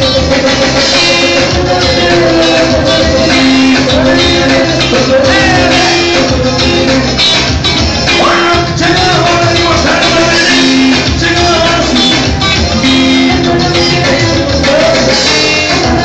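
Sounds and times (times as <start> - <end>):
driving drum beat: 0.0 - 16.0
electric guitar: 0.0 - 16.0
live band music: 0.0 - 16.0.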